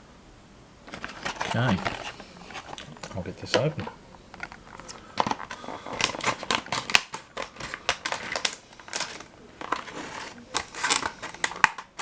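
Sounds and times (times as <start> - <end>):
plastic packaging torn open: 0.9 - 3.2, 4.4 - 12.0.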